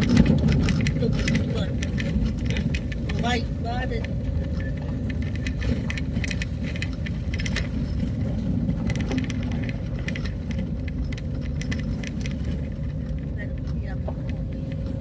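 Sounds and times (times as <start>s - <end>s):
rattles and clicks: 0.0s - 15.0s
vehicle engine and tyres rumbling: 0.0s - 15.0s.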